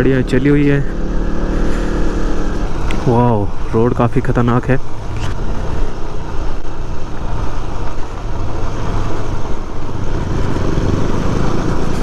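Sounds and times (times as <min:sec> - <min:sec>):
motorcycle engine running: 0:00.0 - 0:04.0, 0:04.9 - 0:12.0
wind and road noise: 0:00.0 - 0:12.0.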